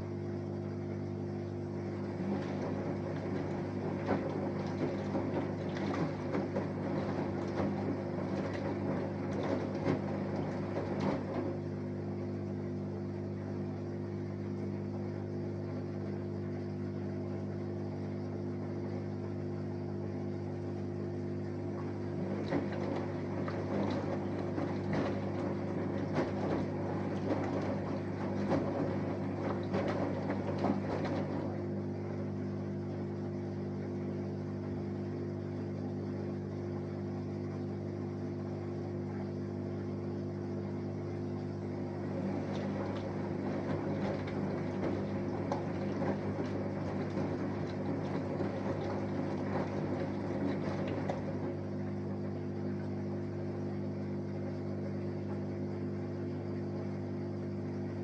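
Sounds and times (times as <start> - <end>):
laundry sloshing in drum: 0.0 - 58.0
washing machine motor hum: 0.0 - 58.0.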